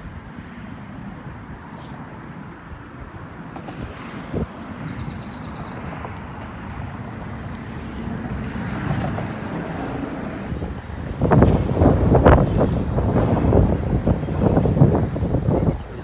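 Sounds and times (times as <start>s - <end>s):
steady outdoor rumble: 0.0s - 16.0s
wind buffeting microphone: 2.4s - 16.0s.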